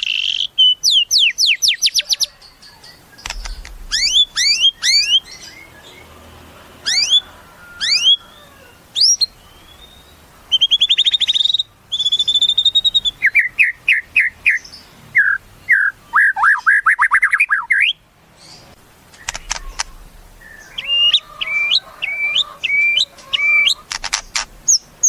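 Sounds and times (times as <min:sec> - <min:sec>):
bird singing varied song: 0:00.0 - 0:06.2, 0:06.8 - 0:25.0.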